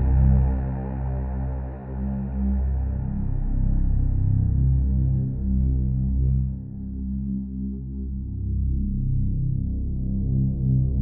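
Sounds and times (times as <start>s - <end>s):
dark ambient synthesizer drones: 0.0s - 11.0s.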